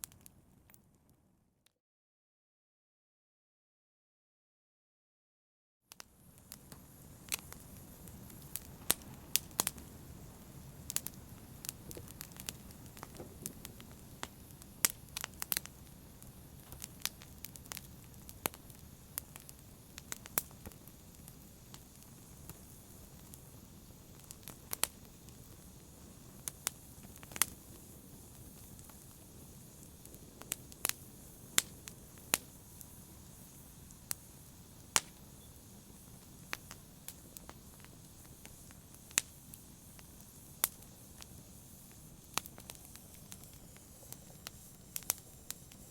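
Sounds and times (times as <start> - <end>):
fire crackling and popping: 0.0 - 0.8, 5.9 - 45.9
low hiss of flames: 5.9 - 45.9.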